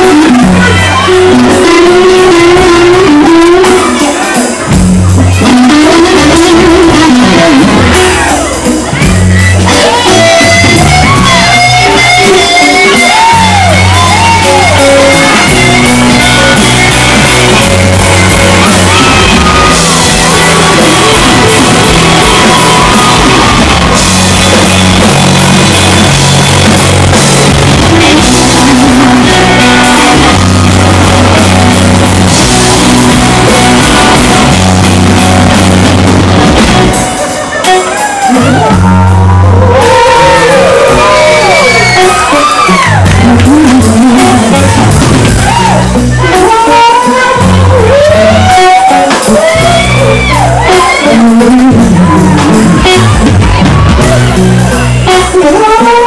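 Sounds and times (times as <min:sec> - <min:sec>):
bass guitar: 0:00.0 - 0:56.0
drum kit: 0:00.0 - 0:56.0
electric guitar lead with bent notes: 0:00.0 - 0:56.0.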